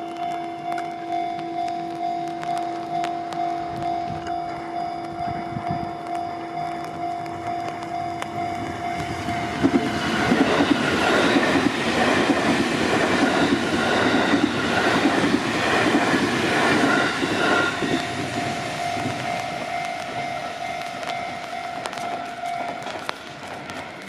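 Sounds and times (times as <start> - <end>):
level crossing alarm ringing: 0.0 - 24.0
train wheels clattering on rails: 0.0 - 24.0.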